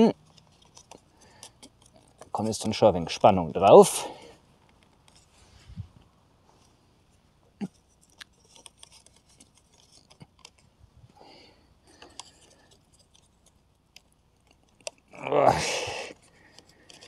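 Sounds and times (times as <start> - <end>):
wooden sticks clicking and scraping: 0.0 - 6.8, 7.5 - 17.0.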